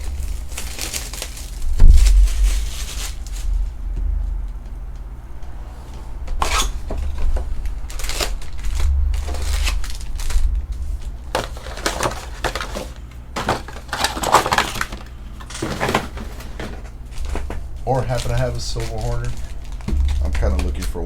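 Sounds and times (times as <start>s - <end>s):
card wrappers crinkling: 0.0s - 3.8s, 6.3s - 21.0s
steady low hum: 0.0s - 21.0s.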